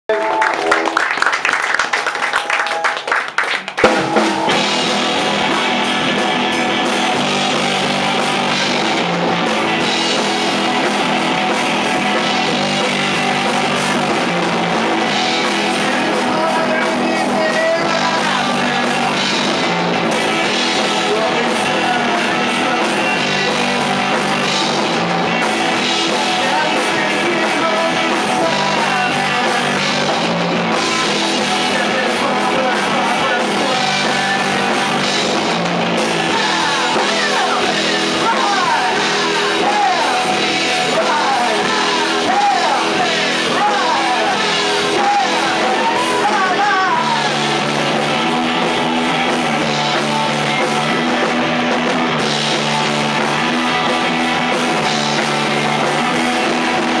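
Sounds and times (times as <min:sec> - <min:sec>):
live rock band with singing: 0:03.0 - 0:57.0.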